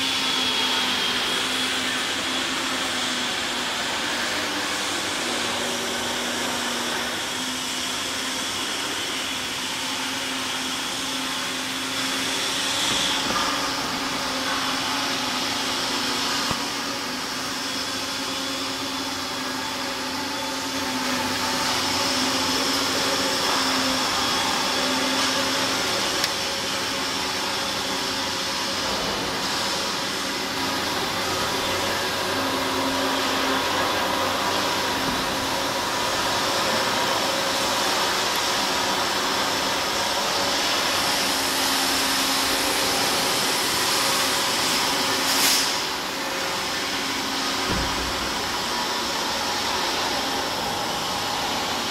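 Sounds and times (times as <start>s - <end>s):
workshop machinery whirring: 0.0s - 51.9s.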